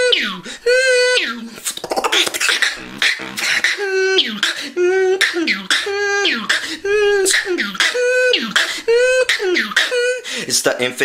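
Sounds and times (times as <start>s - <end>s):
beatboxing: 0.0s - 11.0s.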